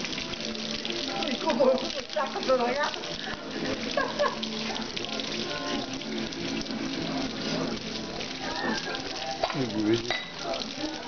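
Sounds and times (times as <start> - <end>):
water splashing on concrete: 0.0 - 11.0.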